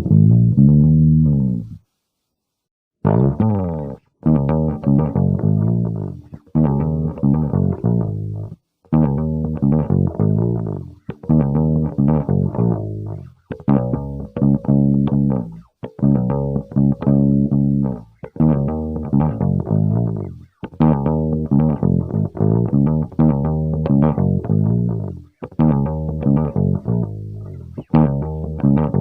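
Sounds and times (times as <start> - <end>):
electric bass plucked notes: 0.0 - 1.8, 3.0 - 29.0.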